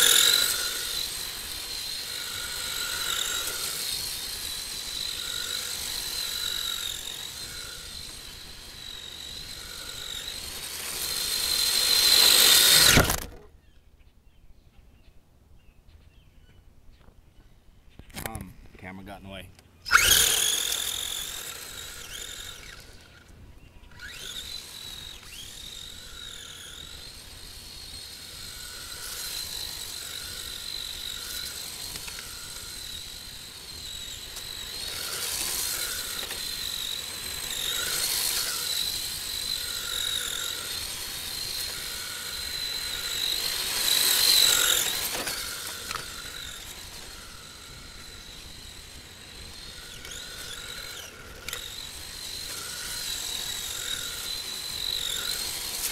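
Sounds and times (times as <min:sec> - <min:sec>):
radio-controlled car motor whining: 0:00.0 - 0:13.5, 0:19.8 - 0:55.9.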